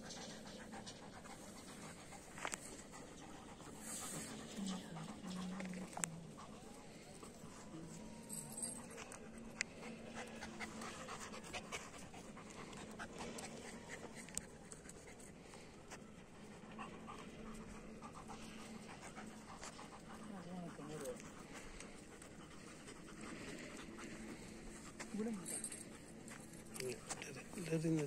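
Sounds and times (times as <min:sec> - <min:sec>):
dog panting: 0:00.0 - 0:28.0.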